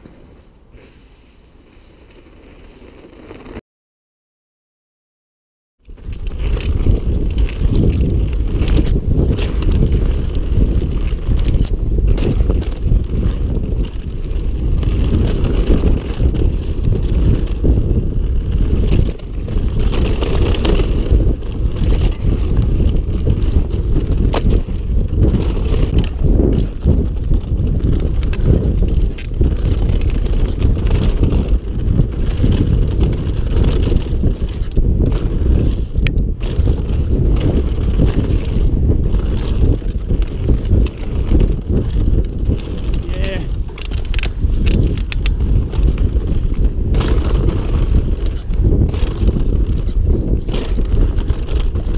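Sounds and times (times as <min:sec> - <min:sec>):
bike tyres rattling over stones: 0:01.6 - 0:03.6, 0:05.8 - 0:51.9
wind buffeting microphone: 0:05.8 - 0:51.9.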